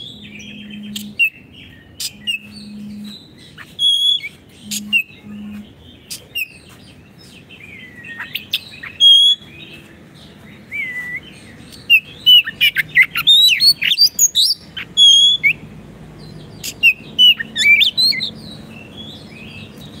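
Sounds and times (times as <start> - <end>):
bird singing whistled notes: 0.0 - 15.6, 16.2 - 20.0.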